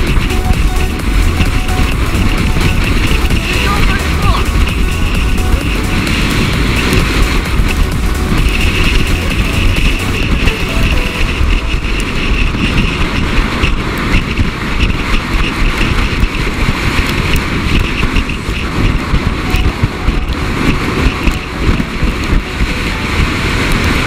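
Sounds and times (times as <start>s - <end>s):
sled scraping on snow: 0.0s - 24.0s
wind buffeting microphone: 0.0s - 24.0s.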